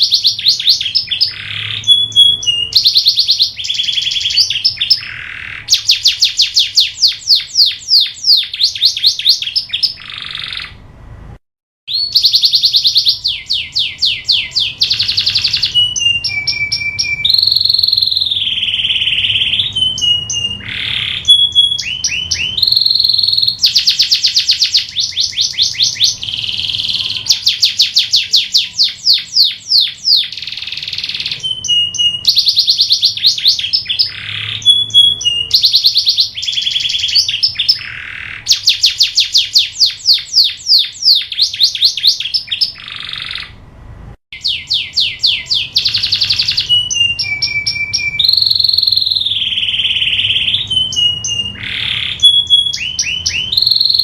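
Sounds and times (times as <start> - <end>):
canary singing: 0.0 - 11.0, 11.9 - 43.7, 44.3 - 54.0.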